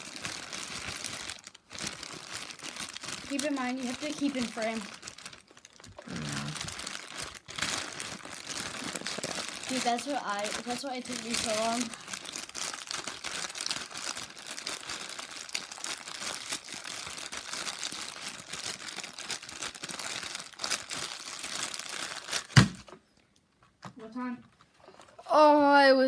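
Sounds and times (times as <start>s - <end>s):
plastic bag crinkling: 0.0s - 22.9s.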